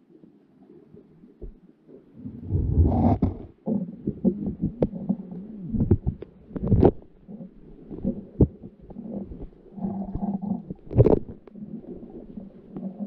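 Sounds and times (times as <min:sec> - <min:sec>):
muffled underwater knocks and scrapes: 0:00.9 - 0:13.0.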